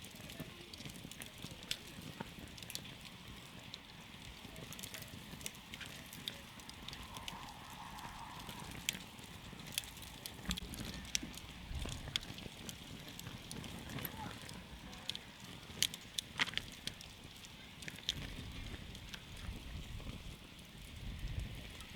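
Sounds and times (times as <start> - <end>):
campfire crackling: 0.0 - 21.9.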